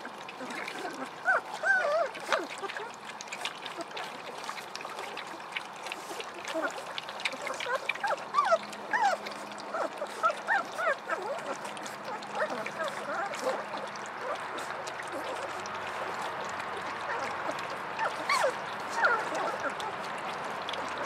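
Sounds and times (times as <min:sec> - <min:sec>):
puppies lapping and slurping: 0:00.0 - 0:21.0
puppies squeaking and whimpering: 0:00.0 - 0:21.0.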